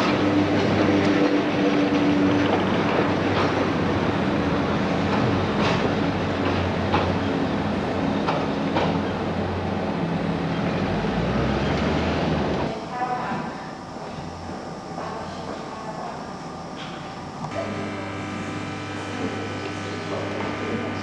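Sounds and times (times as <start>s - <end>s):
tram motor hum and running noise: 0.0s - 21.0s.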